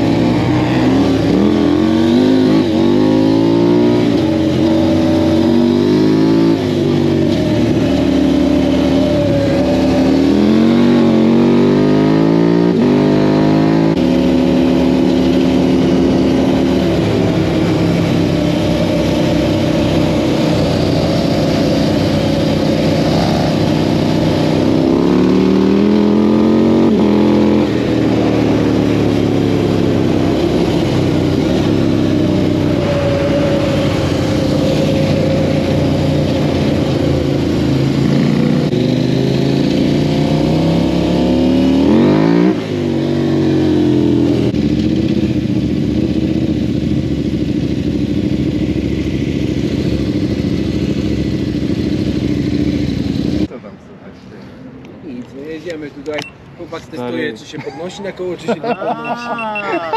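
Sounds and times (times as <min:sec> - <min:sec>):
quad engine revving: 0:00.0 - 0:53.5.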